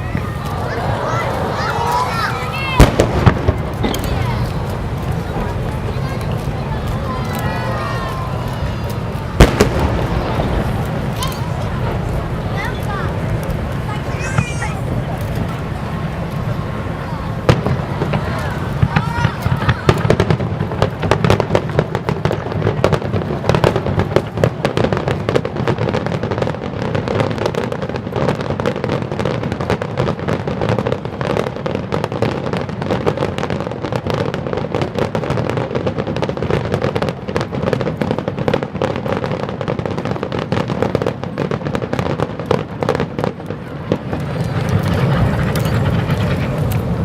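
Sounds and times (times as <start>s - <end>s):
fireworks bursting and crackling: 0.0s - 47.0s.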